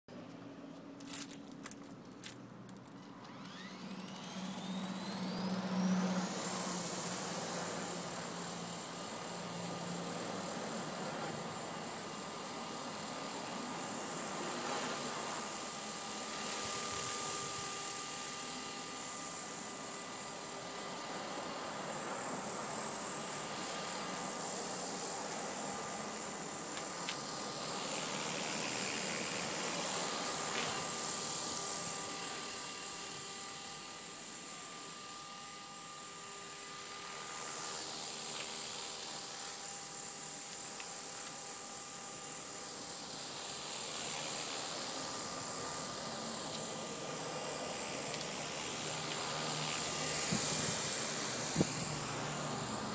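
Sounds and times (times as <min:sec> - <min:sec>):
rc helicopter motor whine: 0:00.8 - 0:52.9.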